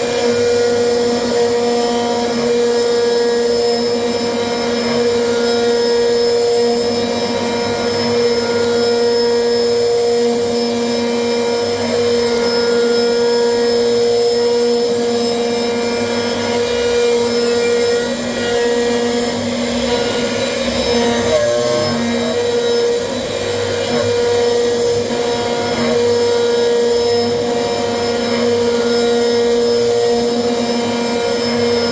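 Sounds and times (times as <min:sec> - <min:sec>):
machine whine: 0:00.0 - 0:31.9
motor hum: 0:00.0 - 0:31.9.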